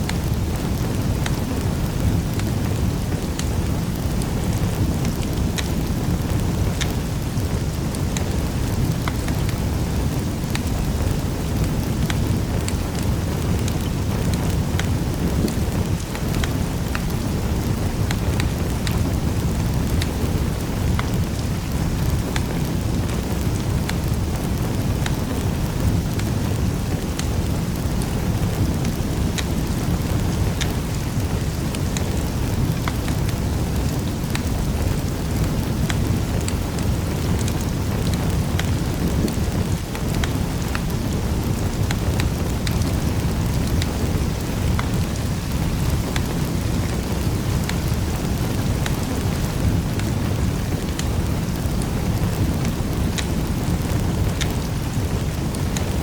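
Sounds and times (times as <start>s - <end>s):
wood fire crackling in fireplace: 0.0s - 56.0s.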